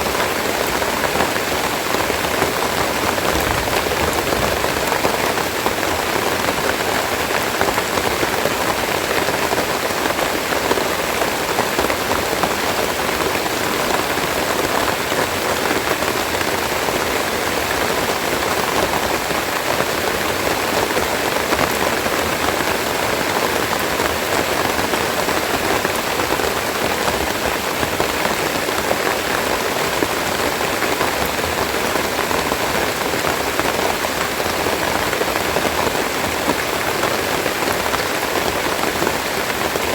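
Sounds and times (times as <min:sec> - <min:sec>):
heavy rain pattering on leaves: 0:00.0 - 0:39.9.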